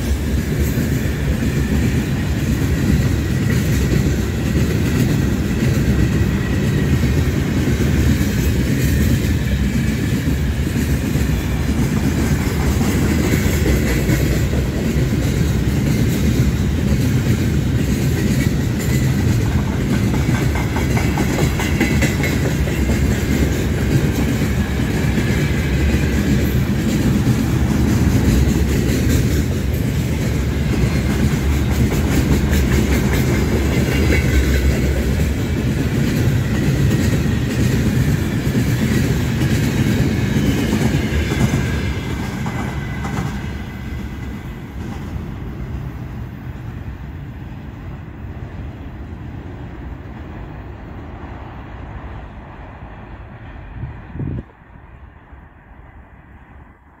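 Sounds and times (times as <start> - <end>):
train wheels rumbling and clacking: 0.0 - 54.7.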